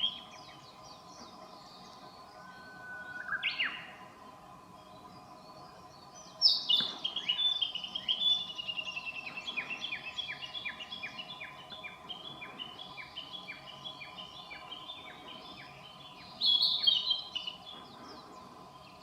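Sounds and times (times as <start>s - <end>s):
songbird downward-sliding notes: 0.0s - 19.0s.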